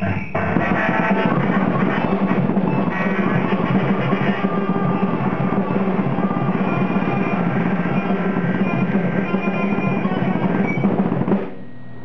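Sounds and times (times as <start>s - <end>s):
drum kit playing: 0.0s - 12.0s
keyboard tones: 0.0s - 12.0s.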